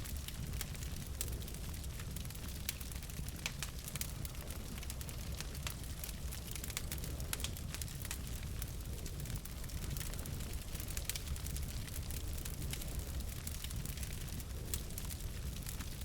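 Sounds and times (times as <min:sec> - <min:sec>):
flames rumbling: 0:00.0 - 0:16.0
logs crackling and popping: 0:00.0 - 0:16.0.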